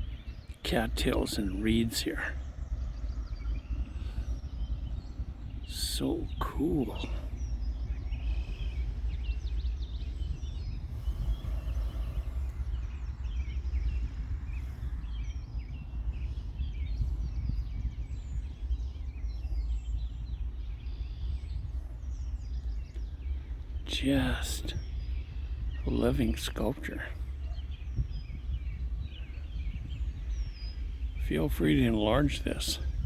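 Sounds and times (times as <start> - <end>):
birds chirping: 0.0 - 33.0
wind rumble on microphone: 0.0 - 33.0.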